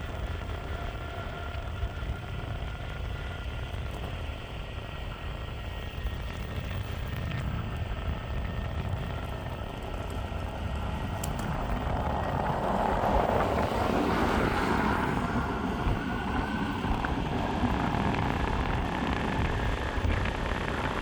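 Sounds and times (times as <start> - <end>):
faint motor whine: 0.0 - 21.0
wheels rumbling on pavement: 0.0 - 21.0
wind rushing over microphone: 0.0 - 21.0.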